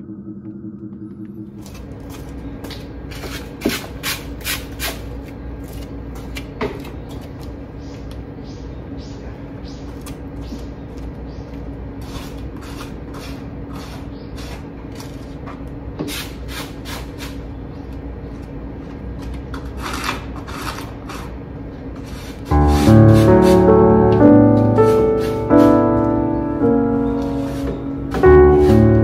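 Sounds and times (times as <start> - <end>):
steady low hum: 0.0 - 16.0, 21.0 - 29.0.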